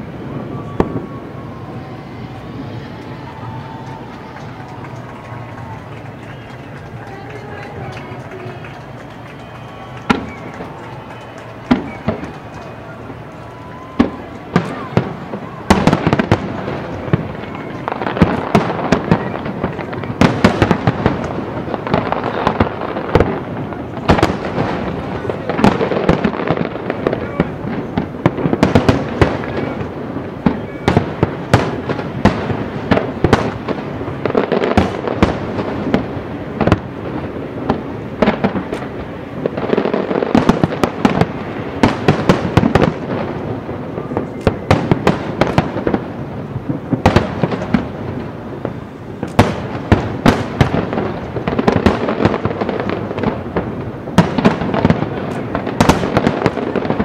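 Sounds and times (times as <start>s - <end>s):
firework crackling: 0.0s - 57.0s
firework shells booming: 0.0s - 57.0s.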